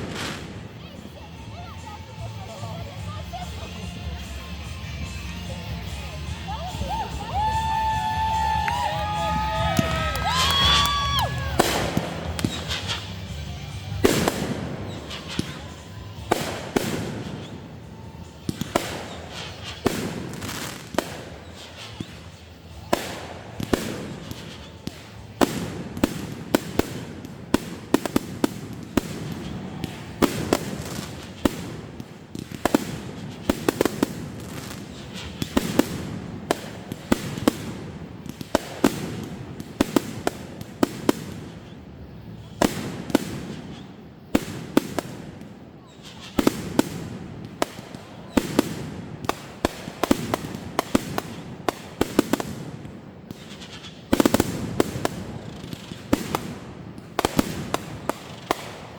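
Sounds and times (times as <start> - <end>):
fireworks bangs: 0.0 - 58.9
fireworks cracking: 0.0 - 58.9.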